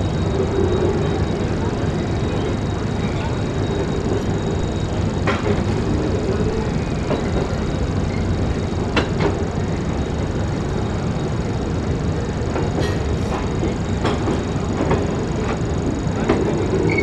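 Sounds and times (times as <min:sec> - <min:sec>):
train rumbling: 0:00.0 - 0:17.0
sharp train clacks: 0:00.3 - 0:11.2, 0:12.4 - 0:17.0.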